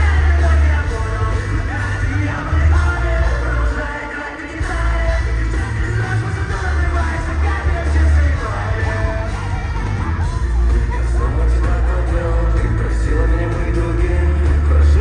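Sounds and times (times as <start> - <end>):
live rock band playing: 0.0 - 15.0
people singing: 0.0 - 15.0.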